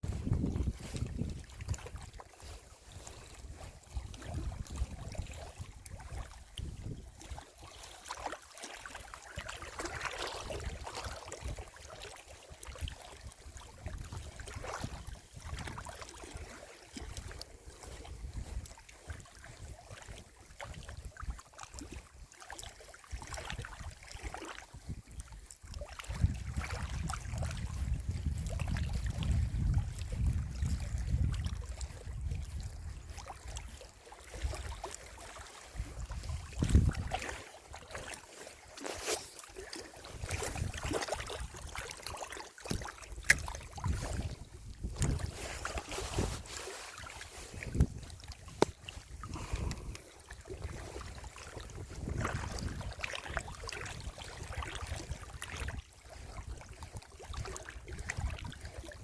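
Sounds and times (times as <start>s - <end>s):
wind buffeting microphone: 0.0s - 7.4s, 9.8s - 11.7s, 12.6s - 22.0s, 23.2s - 35.0s, 35.7s - 39.1s, 40.0s - 59.0s.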